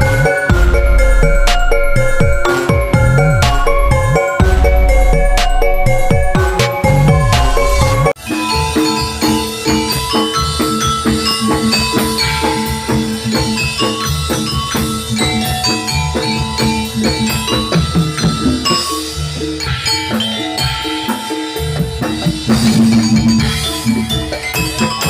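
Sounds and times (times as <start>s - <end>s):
drums: 0.0s - 25.0s
metal-keyed mallet instruments: 0.0s - 25.0s.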